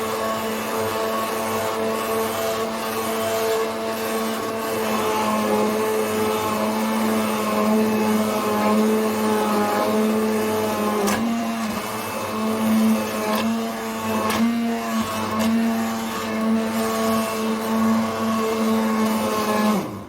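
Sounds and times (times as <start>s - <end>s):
hand blender motor whine: 0.0s - 20.0s.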